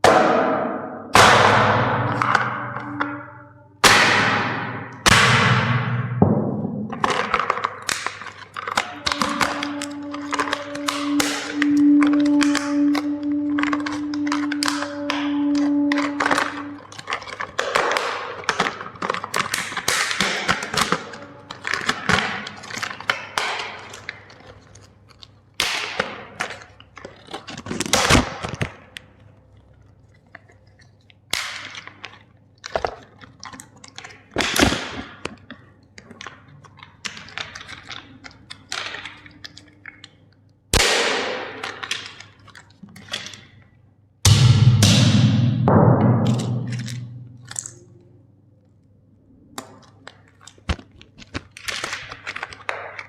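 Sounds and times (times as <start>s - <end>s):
plastic toys cracking: 1.2s - 43.8s, 46.3s - 53.0s.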